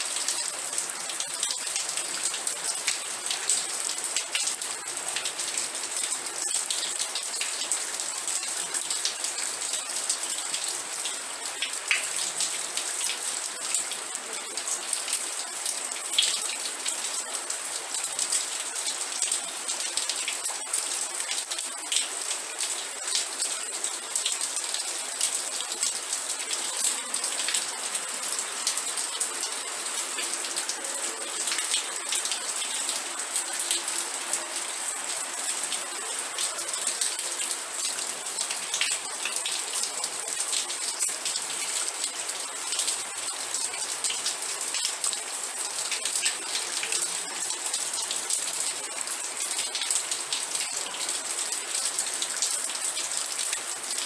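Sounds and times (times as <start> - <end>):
raindrops pattering on a surface: 0.0 - 54.0.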